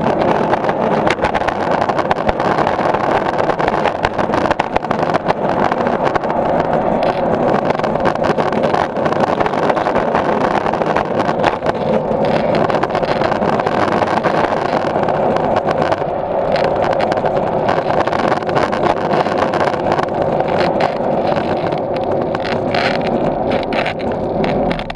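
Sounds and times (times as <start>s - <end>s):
skateboard wheels rolling on concrete: 0.0s - 24.9s.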